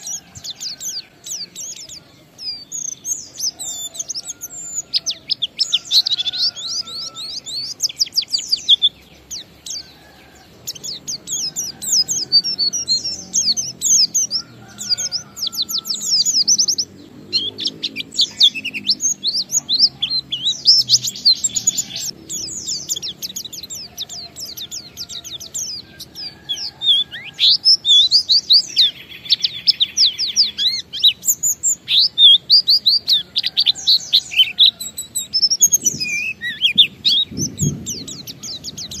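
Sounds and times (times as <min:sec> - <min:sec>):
bird twittering song: 0:00.0 - 0:39.0.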